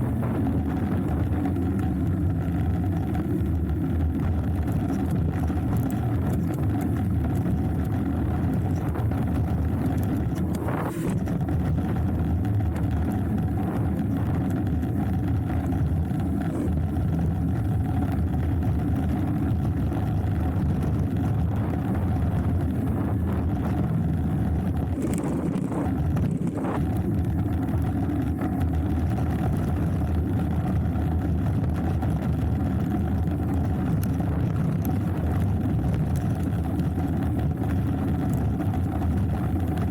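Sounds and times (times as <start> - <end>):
tyres on dirt trail: 0.0 - 39.9
wind buffeting microphone: 0.0 - 39.9.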